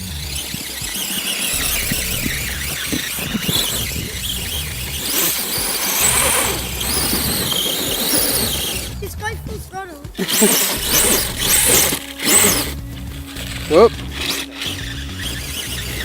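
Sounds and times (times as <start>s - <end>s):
electric rc truck motor whining: 0.0s - 16.0s.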